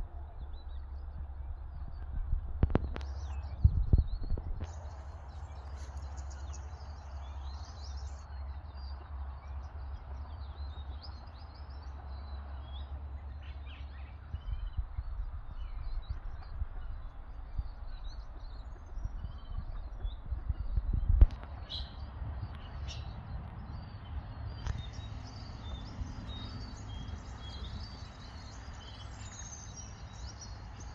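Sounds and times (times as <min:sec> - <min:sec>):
wind rumble on microphone: 0:00.0 - 0:30.9.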